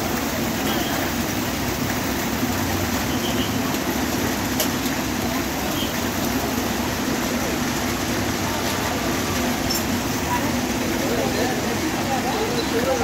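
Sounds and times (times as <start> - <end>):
diesel bus engines idling: 0.0 - 13.0
steady rain: 0.0 - 13.0.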